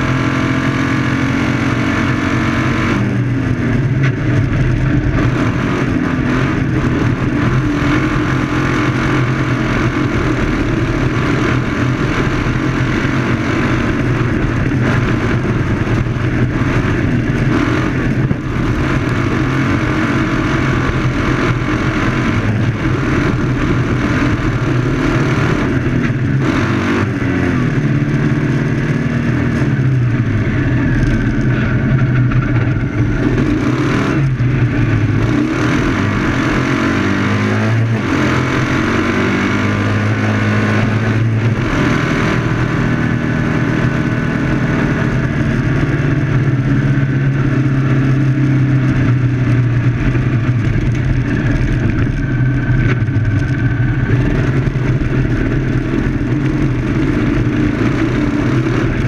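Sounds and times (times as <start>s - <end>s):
race car engine revving: 0.0s - 59.0s
steady rushing noise: 0.0s - 59.0s.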